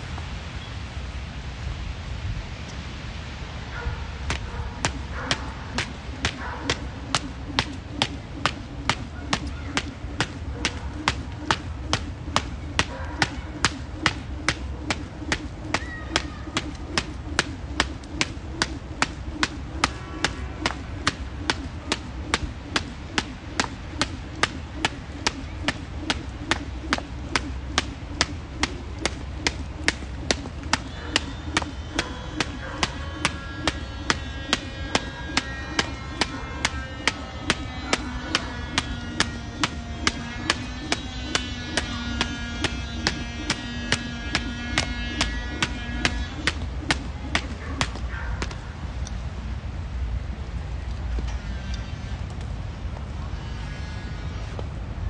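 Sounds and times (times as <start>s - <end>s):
jump rope slapping ground: 4.2s - 48.6s.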